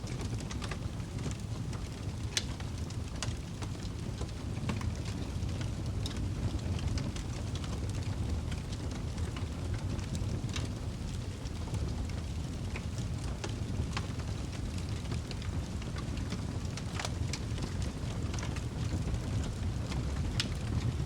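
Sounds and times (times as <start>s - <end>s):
low rumble of flame: 0.0s - 21.0s
wood fire crackling: 0.0s - 21.0s.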